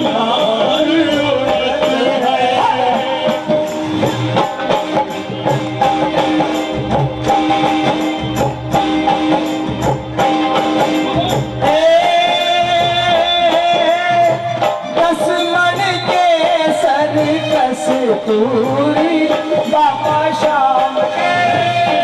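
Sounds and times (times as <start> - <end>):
drum and percussion beat: 0.0 - 22.0.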